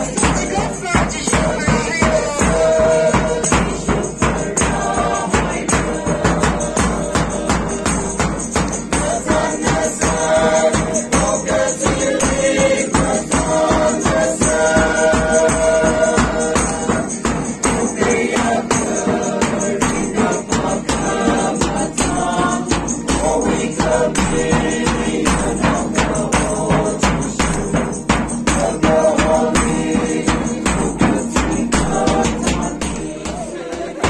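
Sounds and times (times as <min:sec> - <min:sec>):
bass drum beat: 0:00.0 - 0:34.0
people singing a hymn: 0:00.0 - 0:34.0
tambourine jingling: 0:00.0 - 0:34.0.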